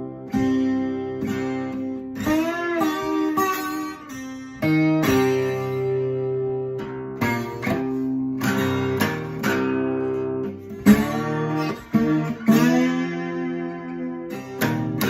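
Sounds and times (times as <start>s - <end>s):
slide guitar blues riff: 0.0s - 15.0s.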